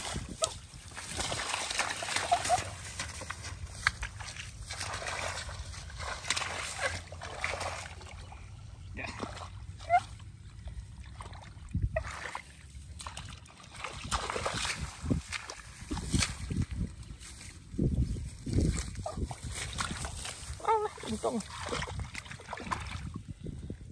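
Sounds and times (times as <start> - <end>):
muddy water splashing: 0.0 - 23.9.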